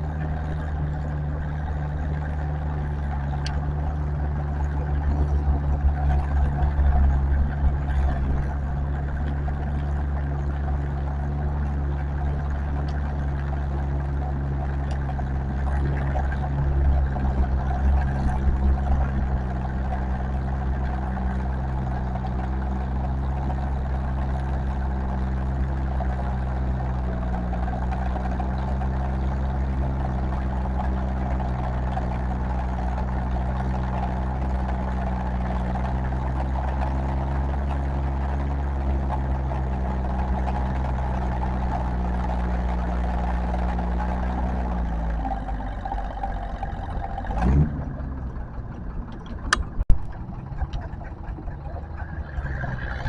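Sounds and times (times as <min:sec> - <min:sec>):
tractor engine running hard: 0:00.0 - 0:53.0.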